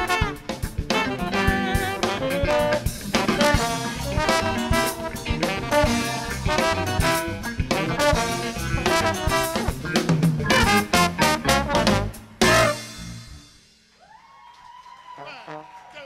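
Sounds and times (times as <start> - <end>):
saxophone and brass horns: 0.0 - 13.4
bass: 0.0 - 14.1
drum kit: 0.0 - 14.1.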